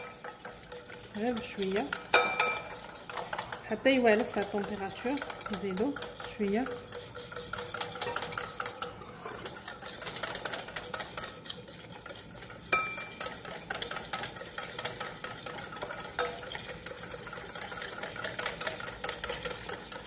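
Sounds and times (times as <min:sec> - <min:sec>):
whisk clicking against glass bowl: 0:00.0 - 0:20.0.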